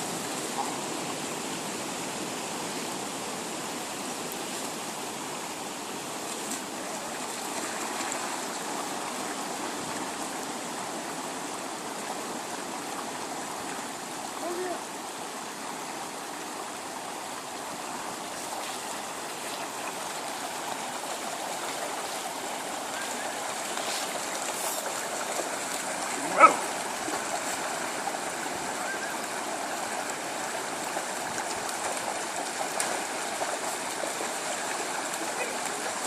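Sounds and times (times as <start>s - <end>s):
stream running: 0.0s - 36.0s.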